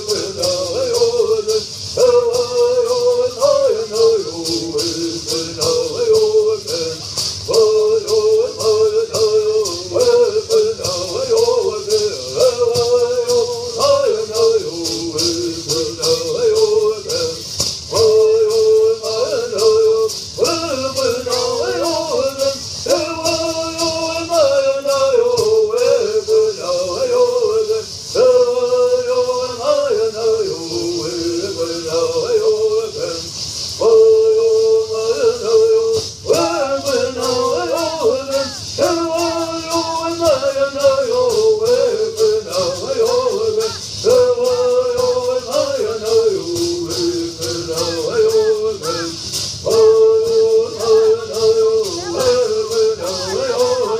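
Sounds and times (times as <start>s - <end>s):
gourd rattles shaking: 0.0s - 53.9s.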